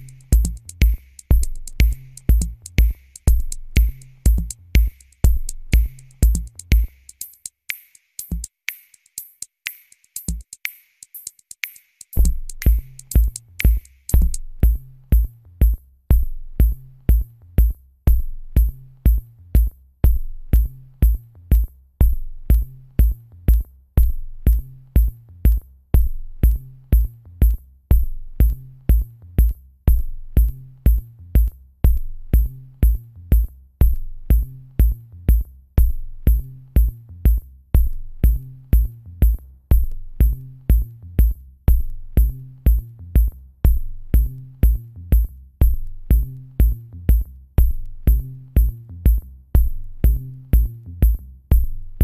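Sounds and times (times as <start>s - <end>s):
electronic music with drum beat: 0.0s - 52.0s.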